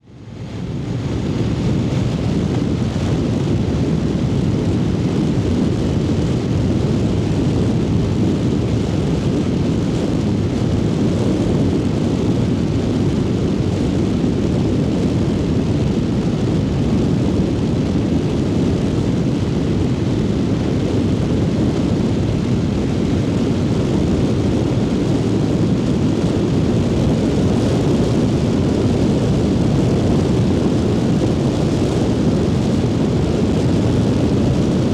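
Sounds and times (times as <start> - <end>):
rushing wind noise: 0.0 - 34.9
motorcycle engine rumble: 0.1 - 34.9.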